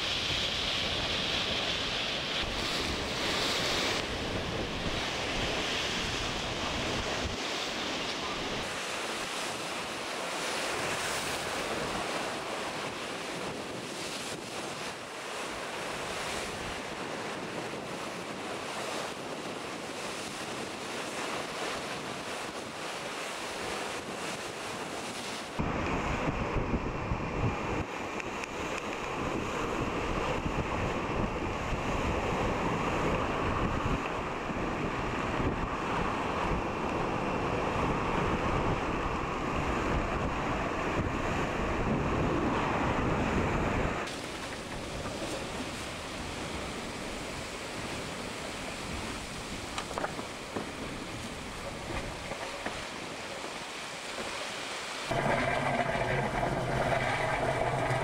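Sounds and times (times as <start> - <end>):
wind buffeting microphone: 0.0 - 54.3, 55.1 - 58.0
sea water rushing along hull: 0.0 - 58.0.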